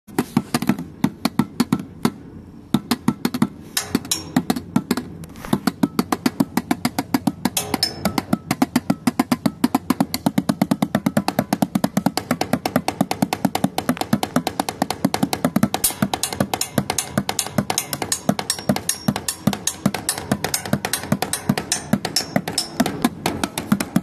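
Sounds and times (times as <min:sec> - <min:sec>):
drumming on paint pots: 0:00.1 - 0:24.0.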